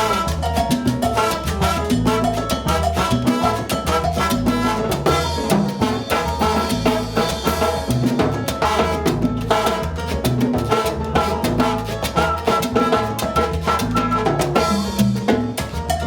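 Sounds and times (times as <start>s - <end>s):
bass line: 0.0s - 16.0s
piano: 0.0s - 16.0s
timbales and congas: 0.0s - 16.0s.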